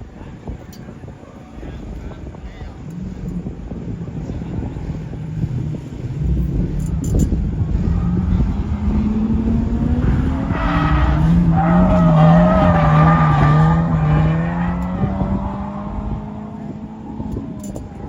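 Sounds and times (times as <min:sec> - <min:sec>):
car engine running hard: 0:00.0 - 0:18.0
tires squealing: 0:01.5 - 0:18.0.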